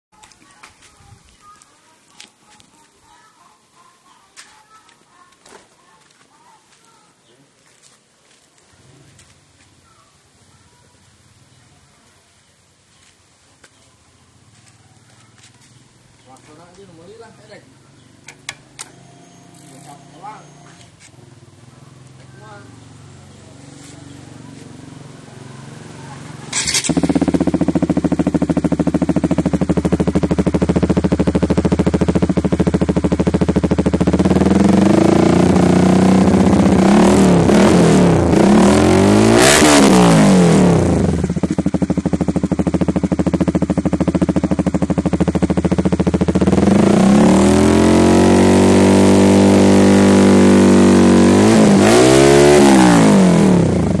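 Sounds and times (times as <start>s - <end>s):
motorcycle engine idling and revving: 8.6s - 11.9s, 12.6s - 54.0s.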